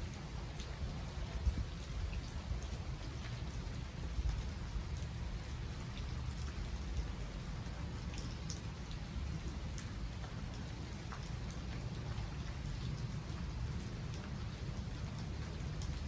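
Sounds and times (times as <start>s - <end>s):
rain pattering on trees: 0.0s - 16.0s
raindrops ticking: 0.0s - 16.0s.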